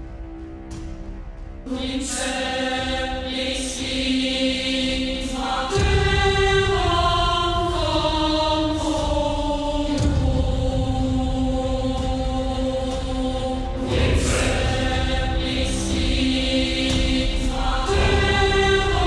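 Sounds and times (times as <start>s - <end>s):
keyboard choir chords: 0.0s - 19.0s.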